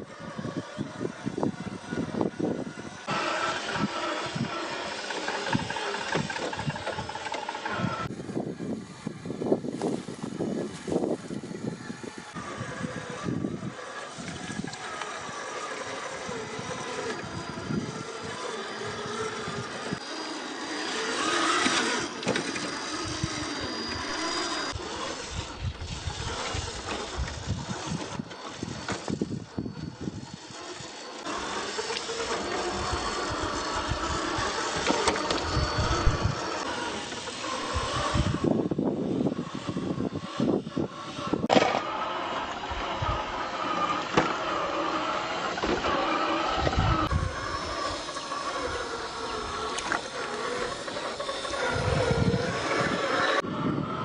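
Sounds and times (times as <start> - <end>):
toy car motor running: 0.0 - 54.0.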